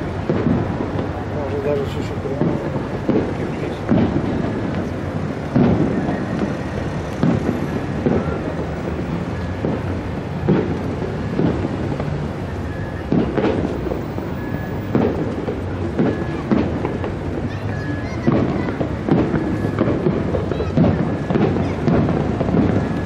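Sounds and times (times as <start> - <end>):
fireworks booming: 0.0 - 23.0.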